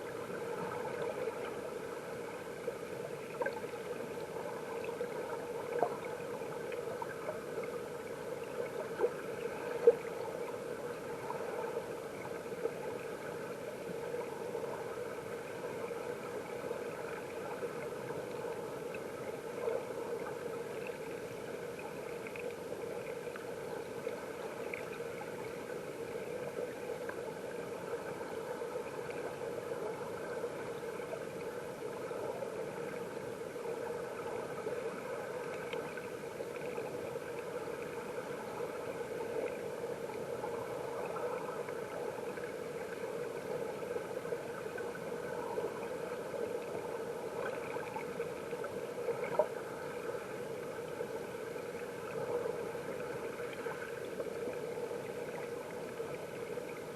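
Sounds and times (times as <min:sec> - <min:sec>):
faint ticks: 0:00.0 - 0:56.9
stream water heard underwater: 0:00.0 - 0:56.9.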